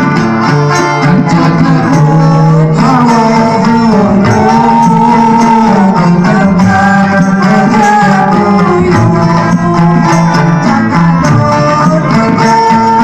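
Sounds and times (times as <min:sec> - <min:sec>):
hand drum beat: 0:00.0 - 0:13.0
held melody line: 0:00.0 - 0:13.0
plucked string instrument: 0:00.0 - 0:13.0.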